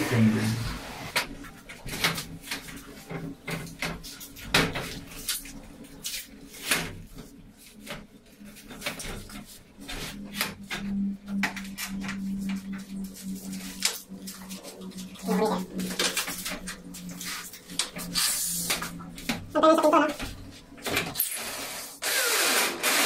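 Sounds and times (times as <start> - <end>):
steady low hum: 0.0 - 21.2.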